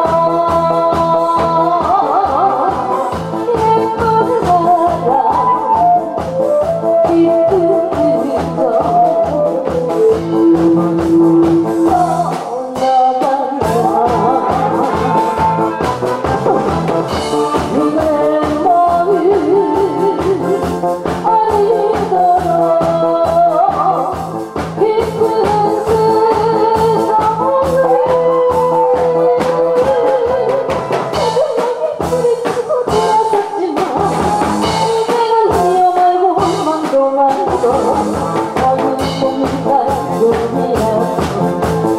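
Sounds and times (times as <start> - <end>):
instrumental music with a beat: 0.0 - 41.9
woman singing: 0.0 - 41.9.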